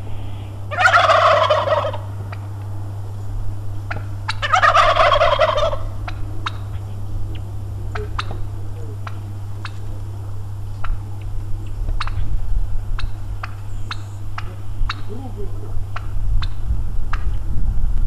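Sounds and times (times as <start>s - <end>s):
steady low hum: 0.0s - 18.0s
turkey gobbling: 0.2s - 17.4s.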